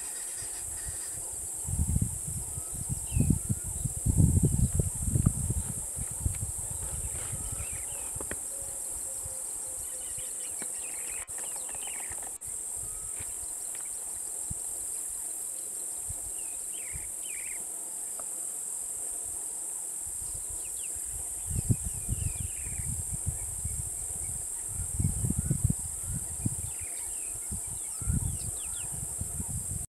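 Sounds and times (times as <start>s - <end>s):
high-pitched insect chorus: 0.0s - 29.9s.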